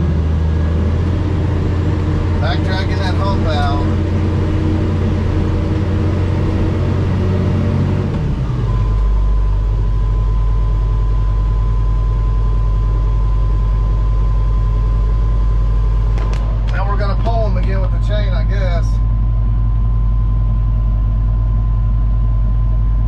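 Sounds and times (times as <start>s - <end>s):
bulldozer diesel engine running: 0.0s - 23.0s
steady high whine: 0.0s - 23.0s.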